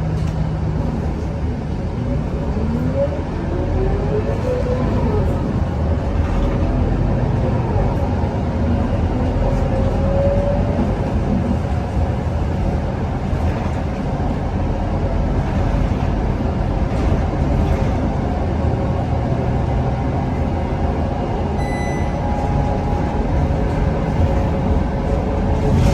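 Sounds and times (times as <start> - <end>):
bus engine and road rumble: 0.0 - 25.9.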